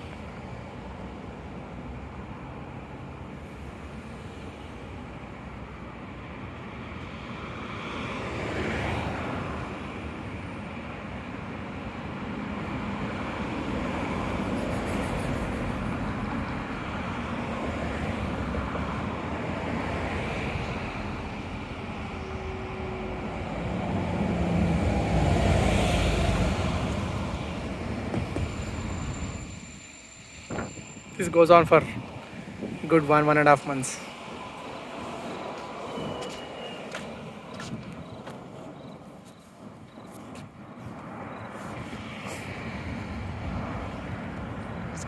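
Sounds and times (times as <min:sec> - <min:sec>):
cars passing by: 0:00.0 - 0:45.0.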